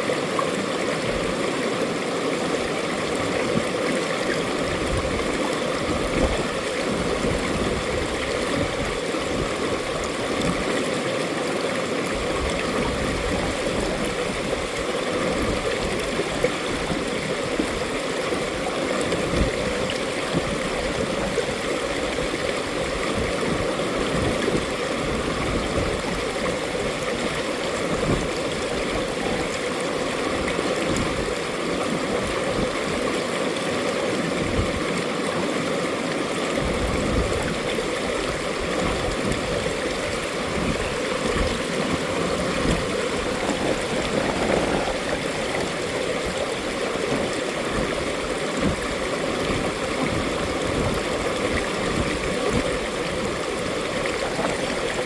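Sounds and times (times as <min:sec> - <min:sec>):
stream rushing and gurgling: 0:00.0 - 0:55.0.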